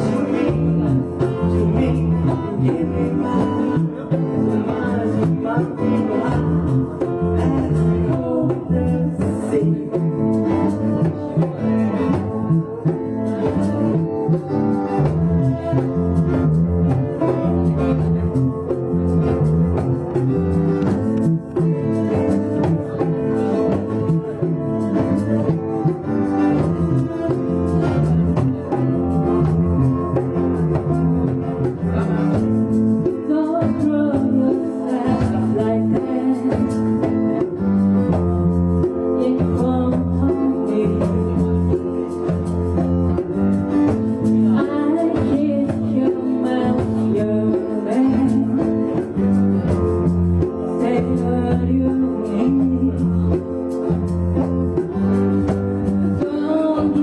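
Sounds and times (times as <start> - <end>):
guitar over bass line: 0.0 - 57.0.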